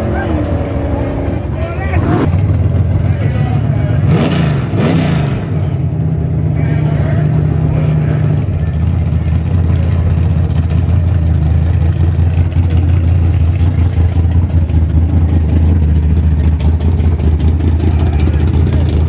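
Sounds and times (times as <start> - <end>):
drag race engine choppy idle: 0.0 - 19.0.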